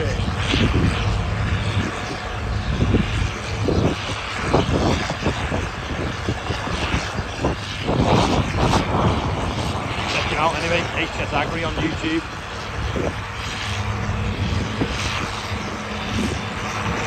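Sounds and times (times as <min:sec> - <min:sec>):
heavy vehicle engine: 0:00.0 - 0:17.0
wind on microphone: 0:00.0 - 0:17.0.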